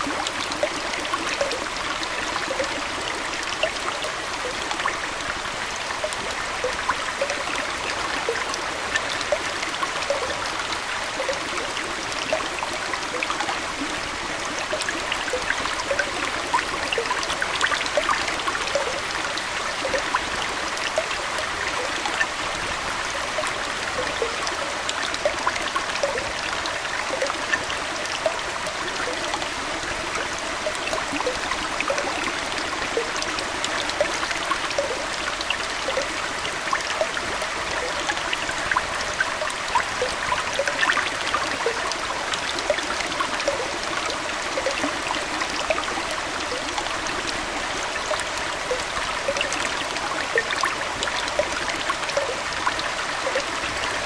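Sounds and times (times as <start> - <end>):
aquarium water trickling: 0.0 - 54.0
small splashes and bubble pops: 0.0 - 54.0.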